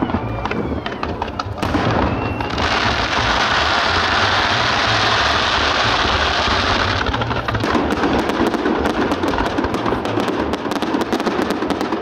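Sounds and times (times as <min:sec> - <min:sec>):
fireworks bangs and crackles: 0:00.0 - 0:12.0
fireworks hissing: 0:00.0 - 0:12.0.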